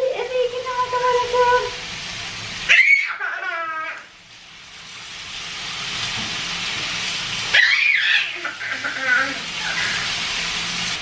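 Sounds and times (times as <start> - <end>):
chicken sizzling in a grill pan: 0.0 - 11.0.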